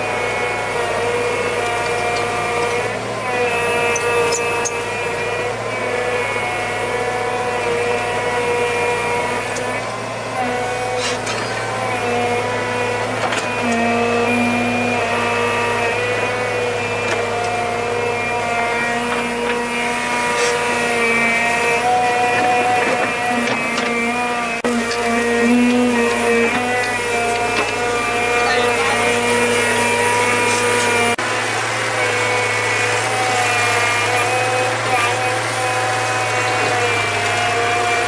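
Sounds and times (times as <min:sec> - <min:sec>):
motor-driven machine whining: 0:00.2 - 0:38.0.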